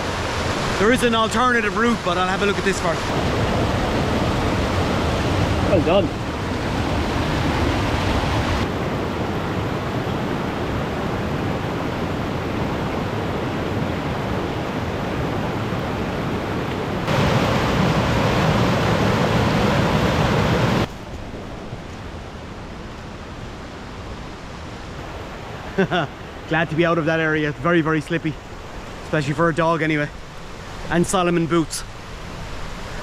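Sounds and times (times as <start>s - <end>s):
river and waterfalls rushing: 0.0s - 33.0s.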